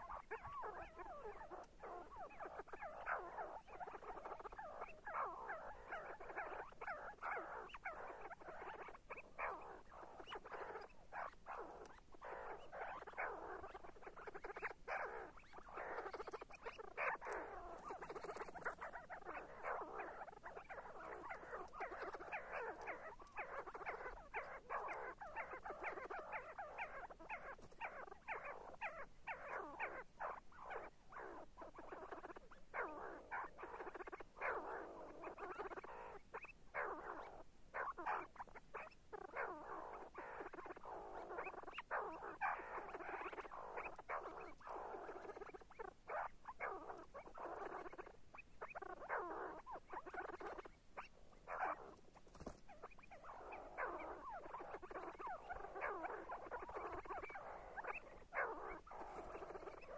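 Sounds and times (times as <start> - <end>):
partridge calling: 0.0 - 59.9.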